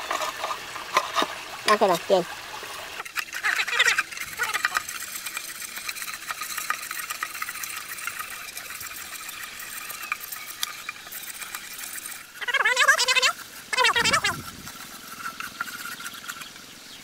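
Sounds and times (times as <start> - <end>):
running water hiss: 0.0 - 17.0.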